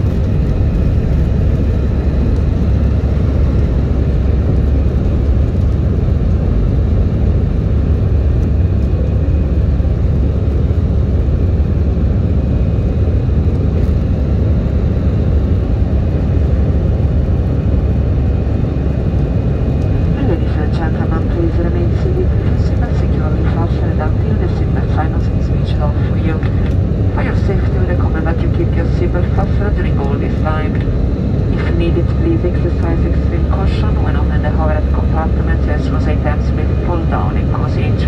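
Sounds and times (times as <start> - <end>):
jet engine rumble in cabin: 0.0 - 38.0.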